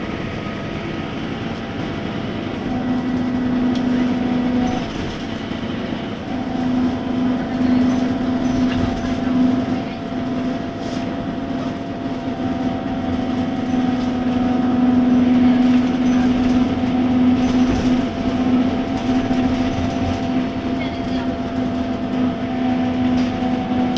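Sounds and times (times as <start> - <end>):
bus engine humming with whine: 0.0 - 23.9.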